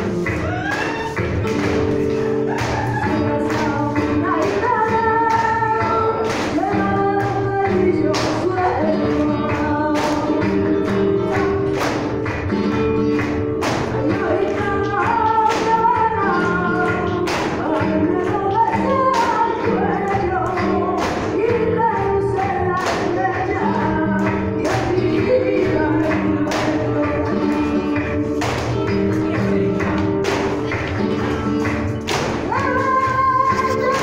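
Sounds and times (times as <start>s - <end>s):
person singing: 0.0s - 11.8s, 13.9s - 34.0s.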